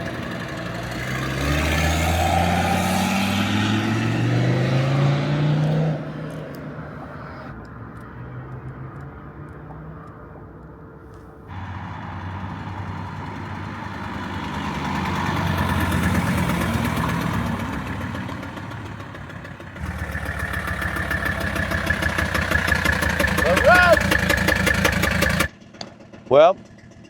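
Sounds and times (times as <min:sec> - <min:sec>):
diesel engine running under load: 0:00.0 - 0:07.5, 0:11.3 - 0:27.0.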